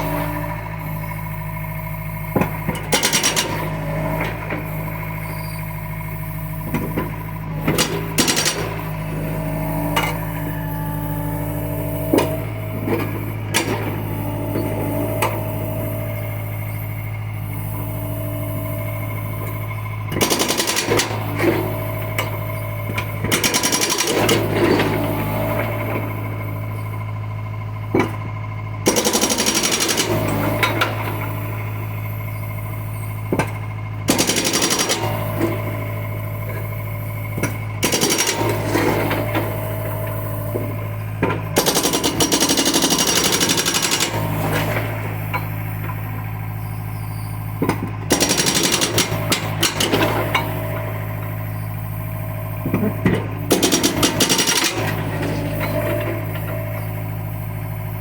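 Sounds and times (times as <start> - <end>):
excavator engine running: 0.0 - 58.0
hydraulic whine: 0.0 - 58.0.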